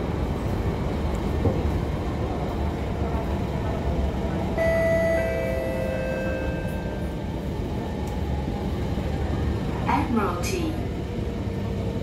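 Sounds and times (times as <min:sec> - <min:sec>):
train running low rumble: 0:00.0 - 0:12.0.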